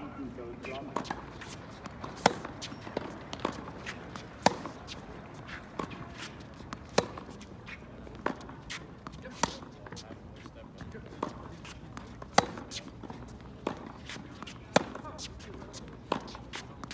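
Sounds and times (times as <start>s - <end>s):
tennis racquet hits: 0.6s - 16.9s
tennis ball bouncing: 0.7s - 16.9s.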